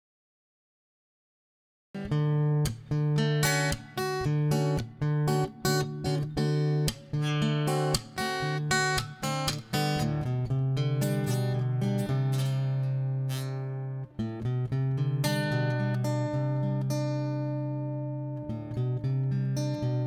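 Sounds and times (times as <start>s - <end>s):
acoustic guitar strumming chords: 2.0s - 20.0s.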